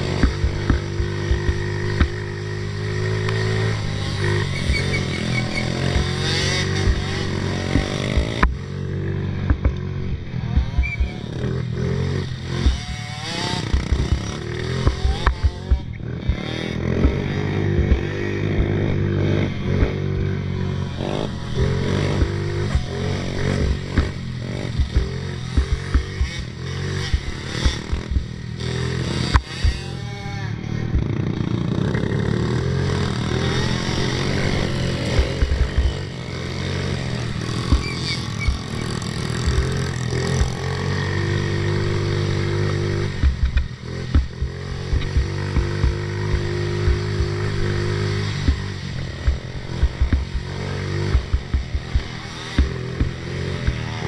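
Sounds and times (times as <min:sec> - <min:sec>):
knocks and rattles of quad bouncing: 0:00.0 - 0:54.0
small atv engine revving: 0:00.0 - 0:54.0.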